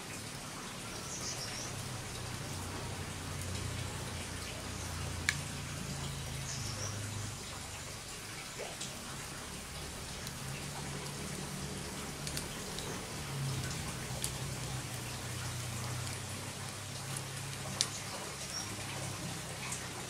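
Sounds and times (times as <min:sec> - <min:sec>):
low steady hum: 0:00.0 - 0:20.0
fire crackling: 0:01.0 - 0:08.0, 0:08.8 - 0:20.0.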